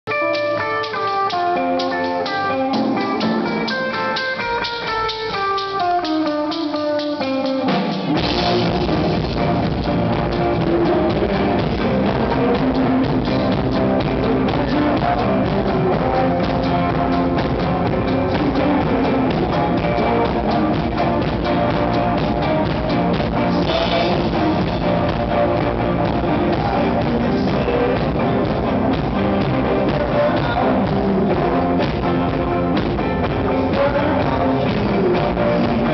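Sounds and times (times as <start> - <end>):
electric guitar single notes: 0.1 - 35.9
rock band playing: 0.1 - 35.9.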